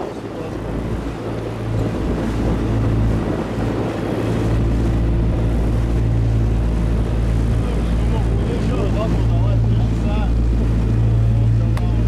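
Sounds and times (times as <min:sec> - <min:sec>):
boat engine running: 0:00.0 - 0:12.0
even rushing noise: 0:00.0 - 0:12.0.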